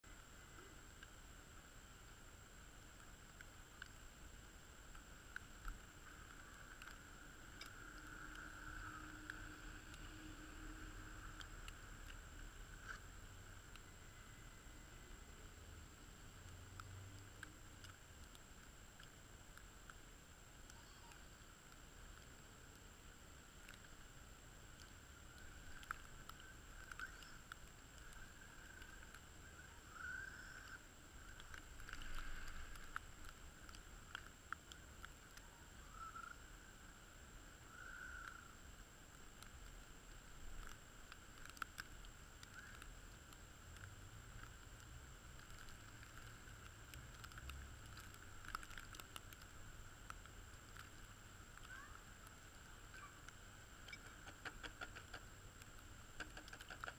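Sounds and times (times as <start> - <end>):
faint background hiss: 0.0 - 56.9
faint ticks: 0.1 - 56.9.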